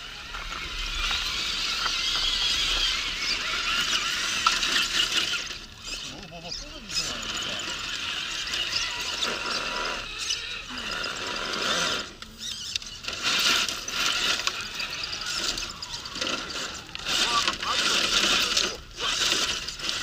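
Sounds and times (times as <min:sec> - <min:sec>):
electric motor and gears whining: 0:00.0 - 0:20.0.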